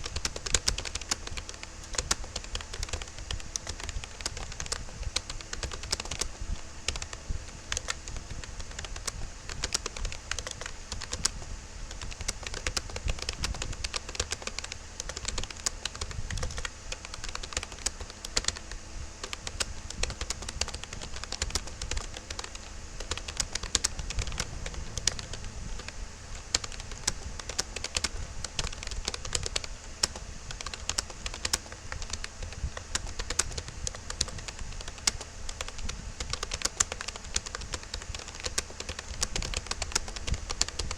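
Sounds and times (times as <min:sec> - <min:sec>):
keyboard typing clicks: 0:00.0 - 0:40.9.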